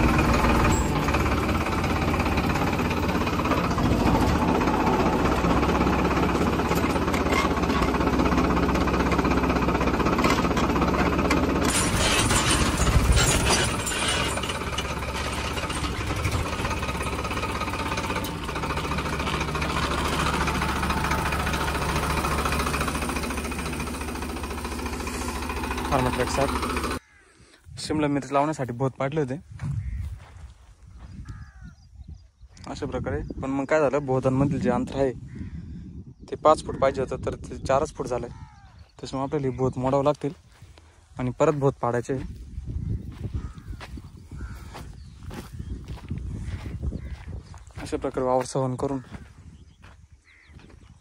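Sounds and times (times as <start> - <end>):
tractor diesel engine running: 0.0 - 27.2, 36.8 - 51.0.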